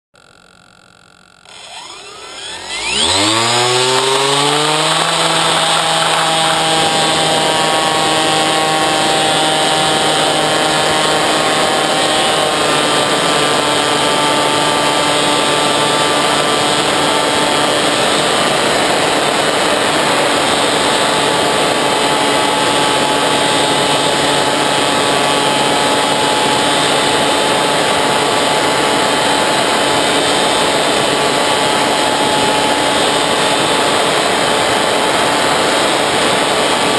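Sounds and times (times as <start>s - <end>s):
electric model plane motor whine: 0.2s - 36.9s.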